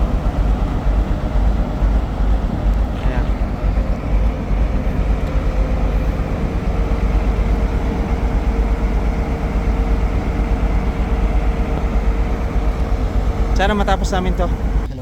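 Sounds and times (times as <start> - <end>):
diesel engine running: 0.0 - 15.0
faint steady whine: 0.0 - 15.0.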